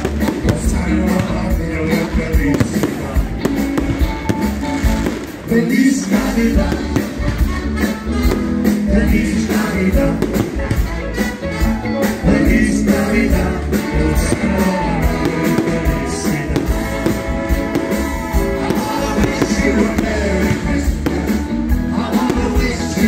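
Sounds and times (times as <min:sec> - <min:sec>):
person singing: 0:00.0 - 0:04.2, 0:05.3 - 0:07.7, 0:08.6 - 0:23.0
loud band music: 0:00.0 - 0:23.0.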